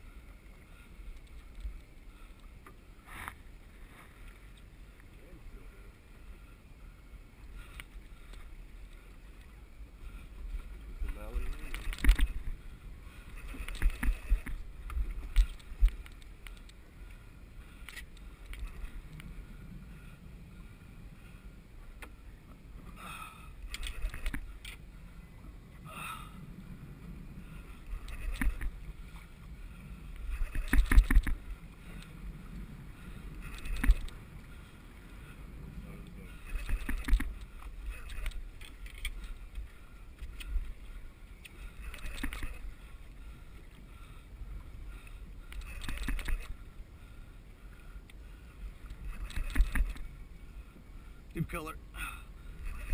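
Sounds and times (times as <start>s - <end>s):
water slapping boat hull: 7.1s - 26.0s, 26.7s - 51.6s.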